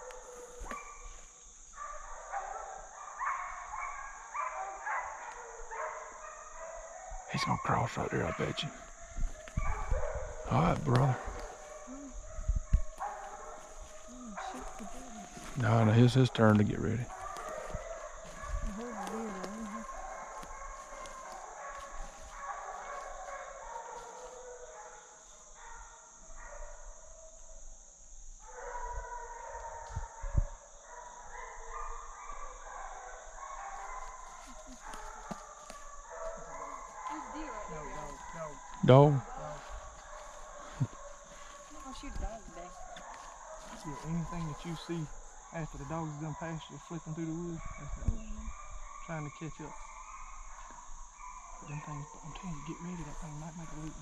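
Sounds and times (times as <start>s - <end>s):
hounds baying: 0.0s - 27.4s, 28.4s - 54.0s.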